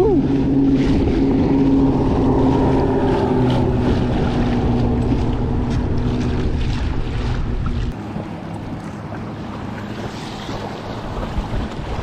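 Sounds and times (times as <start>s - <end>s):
water rushing along hull: 0.0s - 12.0s
wind on microphone: 0.0s - 12.0s.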